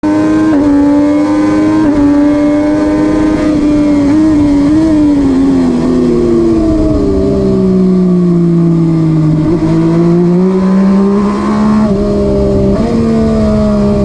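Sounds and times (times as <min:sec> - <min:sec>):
motorcycle engine at high revs: 0:00.0 - 0:14.0
wind rush: 0:01.8 - 0:14.0.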